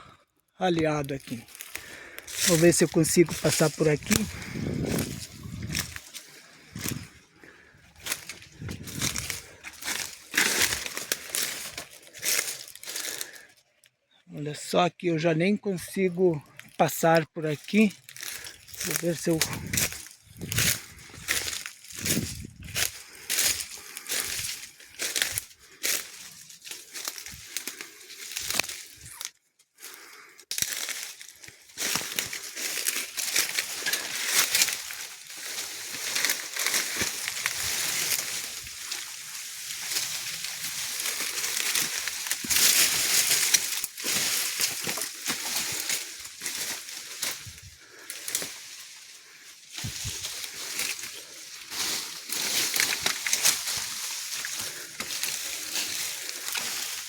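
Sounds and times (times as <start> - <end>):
leaves and branches rustling: 0.7 - 14.2, 15.5 - 57.0
twigs snapping: 0.8 - 13.9, 17.6 - 57.0.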